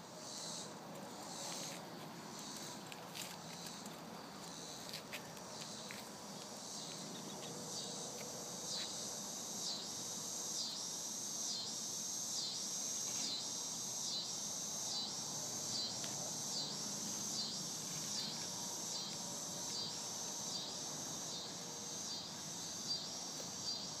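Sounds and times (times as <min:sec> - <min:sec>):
insects buzzing rhythmically: 0:00.0 - 0:24.0.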